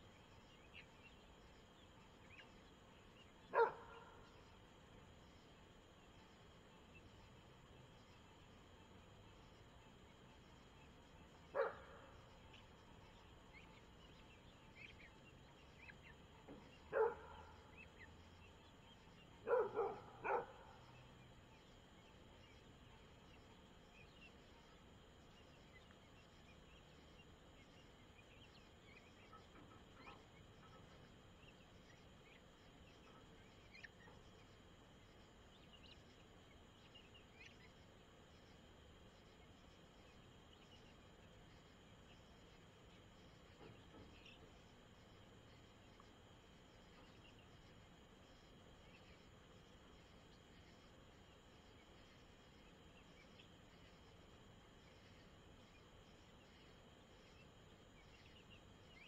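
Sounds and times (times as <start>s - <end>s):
faint chirps: 0.0s - 59.0s
faint night background: 0.0s - 59.0s.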